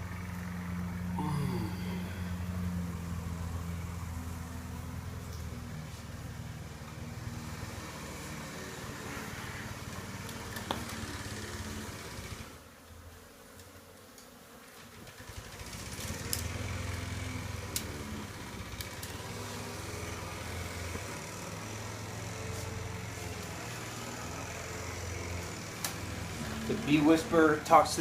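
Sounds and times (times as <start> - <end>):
lawn mower engine running: 0.0 - 12.6, 15.0 - 28.0
honey bees buzzing: 0.0 - 28.0.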